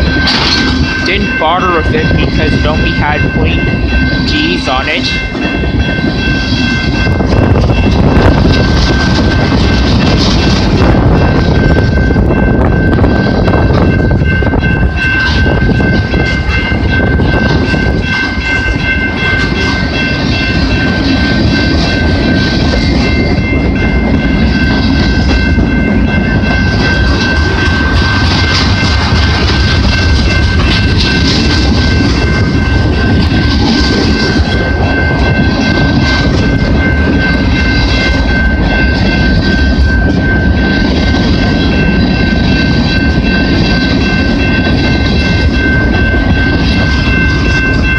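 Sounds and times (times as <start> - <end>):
train wheels clattering on rails: 0.0 - 47.9.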